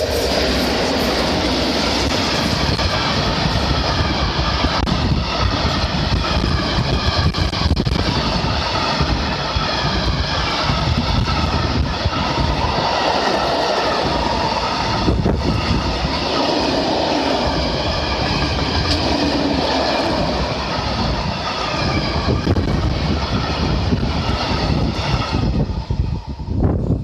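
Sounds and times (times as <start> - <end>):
freight train rolling past: 0.0 - 27.0
wheels ringing on rails: 0.0 - 27.0.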